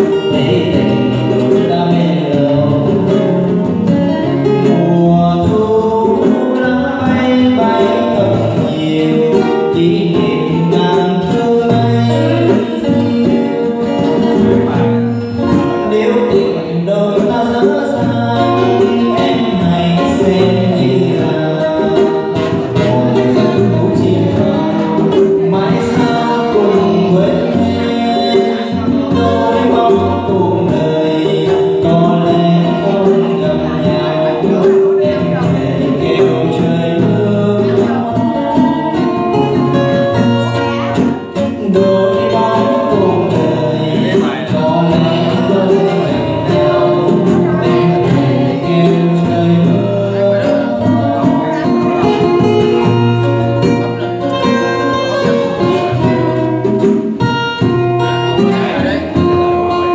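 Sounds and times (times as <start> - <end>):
acoustic guitars: 0.0 - 59.9
hand percussion: 0.0 - 59.9
man singing a slow ballad: 0.0 - 59.9.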